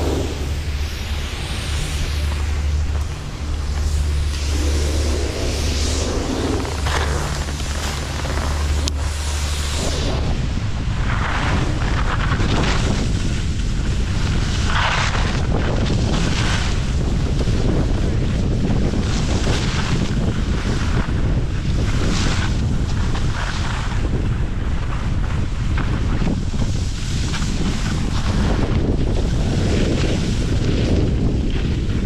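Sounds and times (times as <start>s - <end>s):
skis hissing across snow: 0.0s - 24.2s, 25.9s - 31.8s
wind buffeting microphone: 0.0s - 32.0s.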